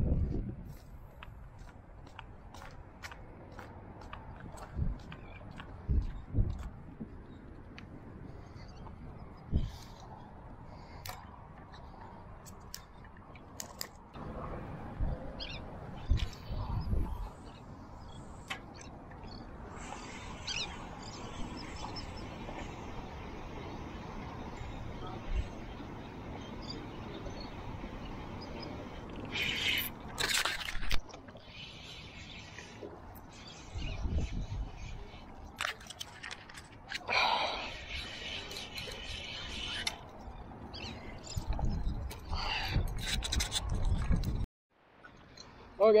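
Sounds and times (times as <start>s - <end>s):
wind rumbling on microphone: 0.0s - 44.5s.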